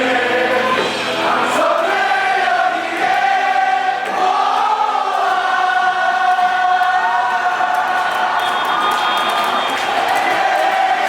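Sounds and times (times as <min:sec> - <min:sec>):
stadium crowd singing: 0:00.0 - 0:11.0.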